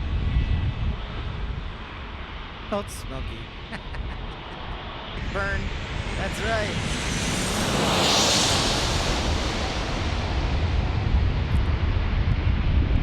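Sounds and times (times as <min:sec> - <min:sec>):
jet airliner engines passing: 0:00.0 - 0:13.0
steady low rumble: 0:00.0 - 0:13.0.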